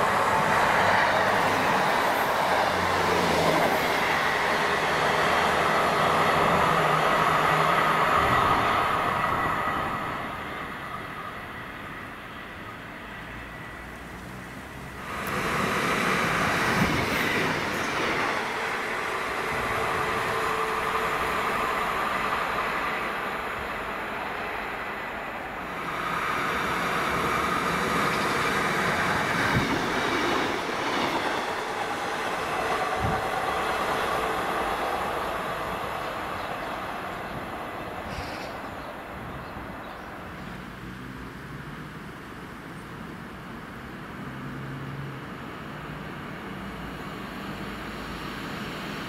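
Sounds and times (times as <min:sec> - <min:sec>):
diesel train rumbling past: 0:00.0 - 0:49.0.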